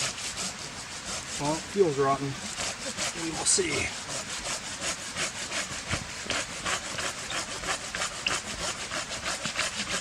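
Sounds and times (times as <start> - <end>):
hand saw cutting wood: 0.0 - 10.0.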